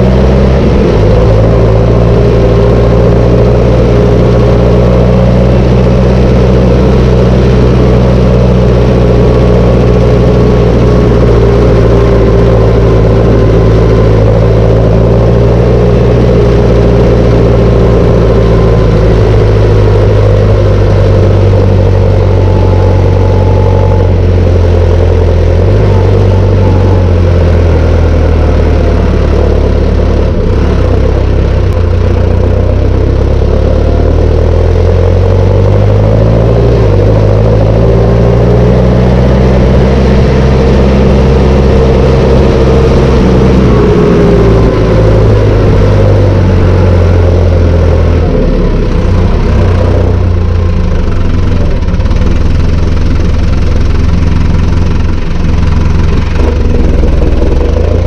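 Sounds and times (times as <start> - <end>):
thin whine: 0.0 - 58.0
tractor diesel engine running: 0.0 - 58.0.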